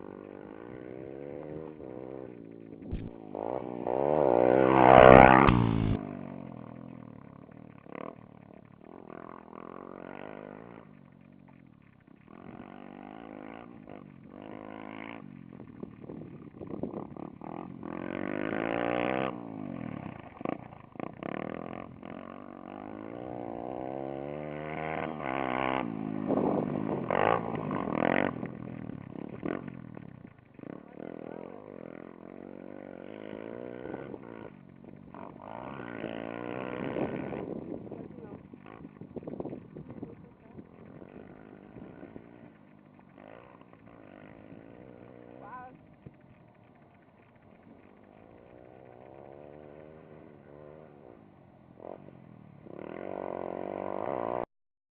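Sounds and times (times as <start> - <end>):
motorcycle engines revving: 0.0 - 54.5.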